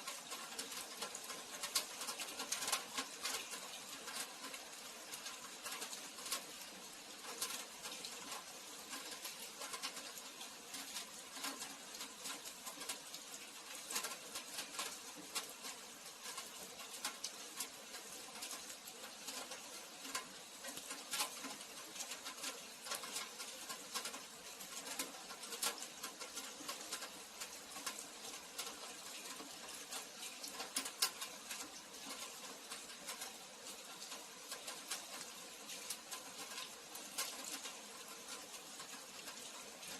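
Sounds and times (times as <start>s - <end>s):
raindrops tapping surfaces: 0.0s - 39.9s
steady rain falling: 0.0s - 39.9s.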